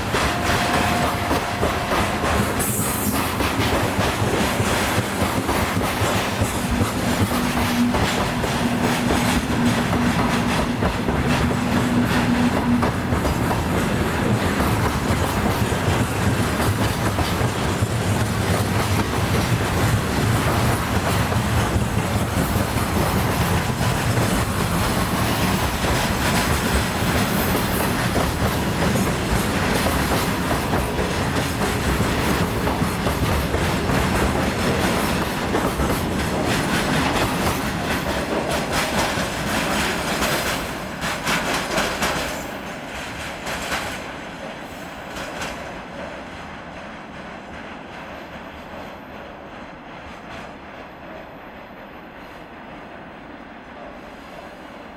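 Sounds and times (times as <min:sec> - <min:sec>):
train wheels clattering over rail joints: 0:00.0 - 0:44.2.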